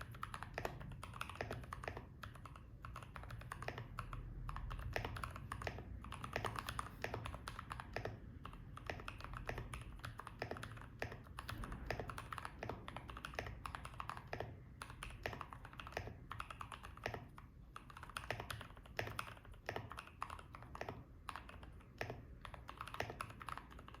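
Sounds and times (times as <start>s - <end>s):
mechanical keyboard typing: 0.0s - 24.0s.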